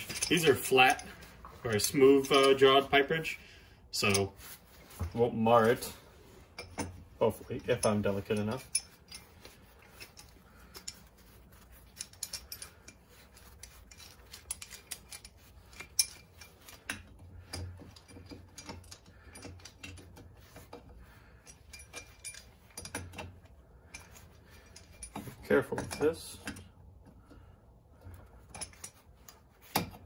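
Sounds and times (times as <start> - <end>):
wrench clinking on metal nut: 0.0 - 3.0, 4.0 - 4.3, 6.5 - 20.8, 21.4 - 27.4, 28.0 - 30.0.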